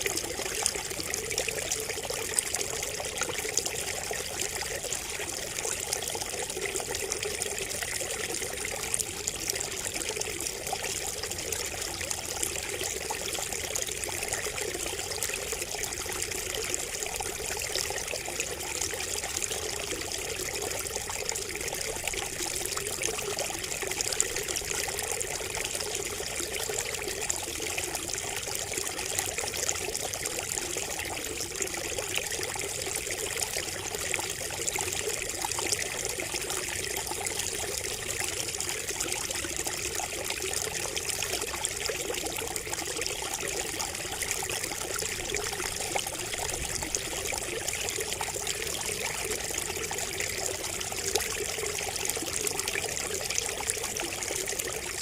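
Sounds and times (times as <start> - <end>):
water trickling from bamboo spout: 0.0 - 55.0.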